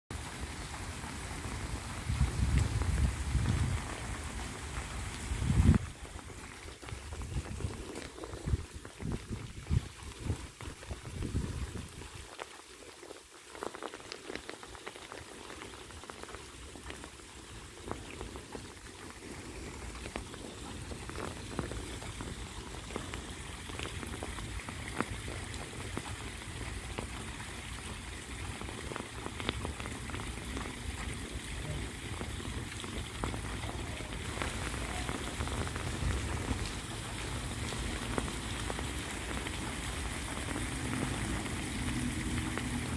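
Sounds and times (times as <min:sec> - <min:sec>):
rain falling on water: 0:00.1 - 0:42.9.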